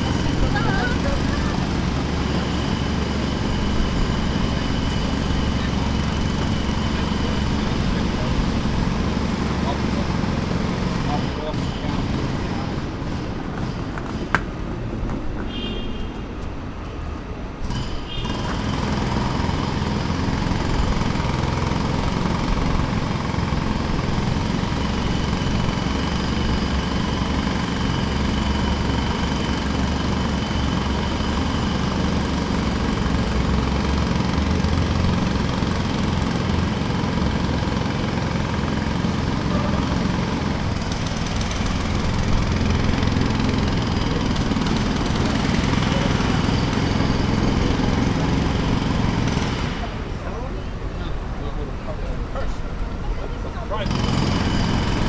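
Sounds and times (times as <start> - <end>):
jackhammer hammering: 0.0 - 14.9, 17.5 - 51.0, 53.7 - 55.0
engine running: 0.0 - 15.6, 16.3 - 55.0.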